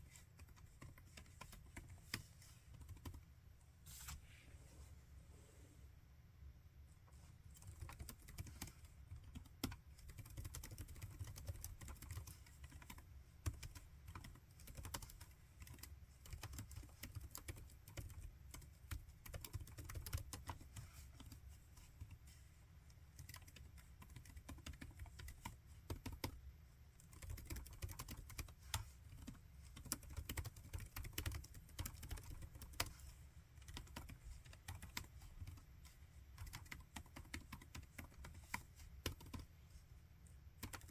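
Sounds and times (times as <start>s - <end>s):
laptop keyboard typing: 0.0s - 3.3s, 7.5s - 22.2s, 23.1s - 26.4s, 27.0s - 39.6s, 40.5s - 40.9s.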